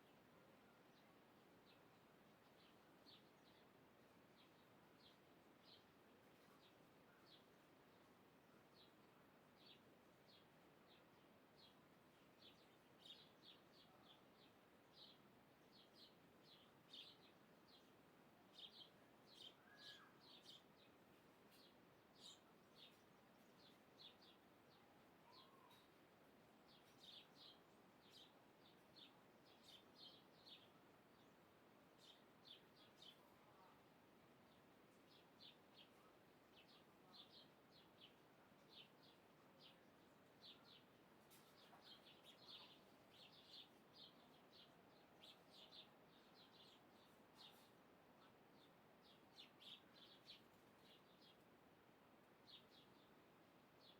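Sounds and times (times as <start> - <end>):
low steady hiss: 0.0 - 53.9.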